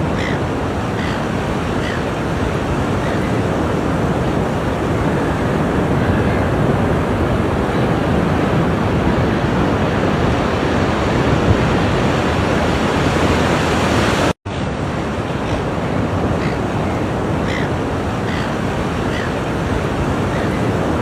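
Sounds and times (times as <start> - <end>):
ocean surf washing on shore: 0.0 - 21.0.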